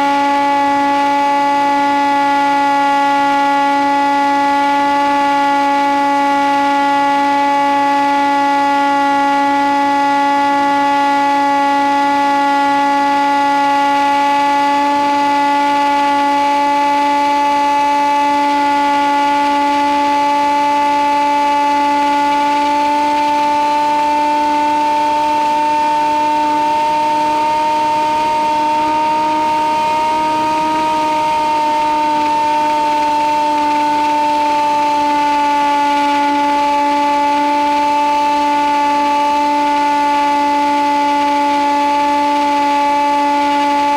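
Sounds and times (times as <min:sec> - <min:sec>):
model plane motor whine: 0:00.0 - 0:43.9.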